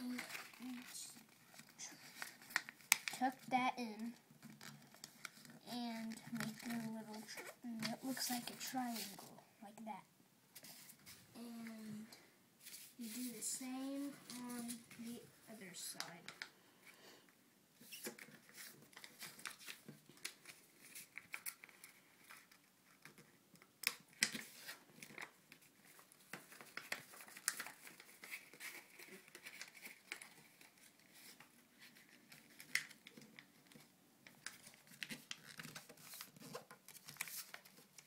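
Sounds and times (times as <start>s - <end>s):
paper rustling and crinkling: 0.0s - 9.4s, 12.6s - 16.5s, 17.8s - 38.0s.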